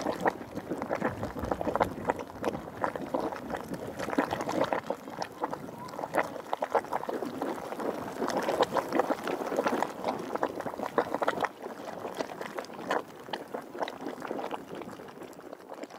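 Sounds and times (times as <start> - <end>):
hot water splashing and gurgling: 0.0 - 15.9.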